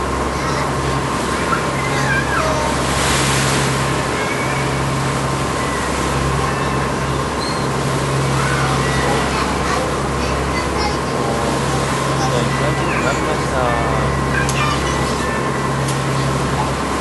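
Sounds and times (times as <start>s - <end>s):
boat engine running: 0.0s - 17.0s
wind and water rushing: 0.0s - 17.0s.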